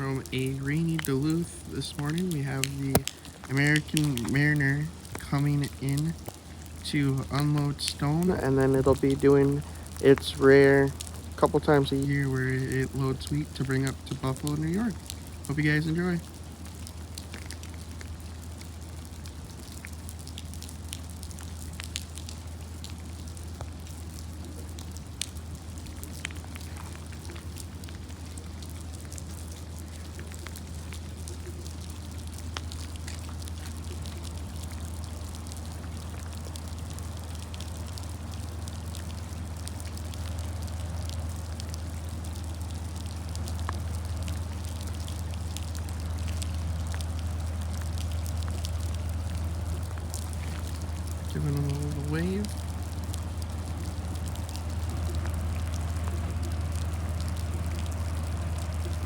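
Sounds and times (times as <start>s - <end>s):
drops ticking: 0.0s - 59.0s
low rumble: 0.0s - 59.0s
steady rain: 0.0s - 59.0s.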